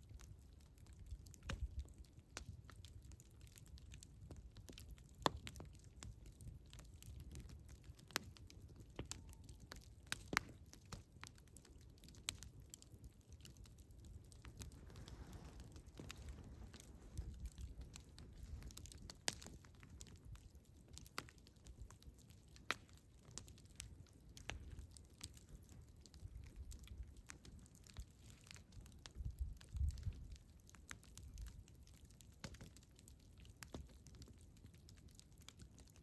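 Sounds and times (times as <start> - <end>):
campfire crackling: 0.0 - 36.0
low rumble of flames: 0.0 - 36.0.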